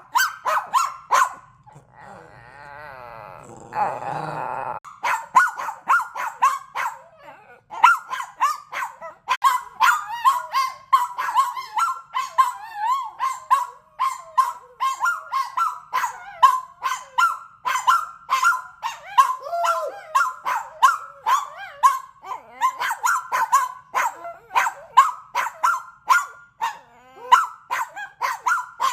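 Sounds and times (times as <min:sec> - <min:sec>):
dogs barking: 0:00.0 - 0:02.0, 0:04.8 - 0:28.9.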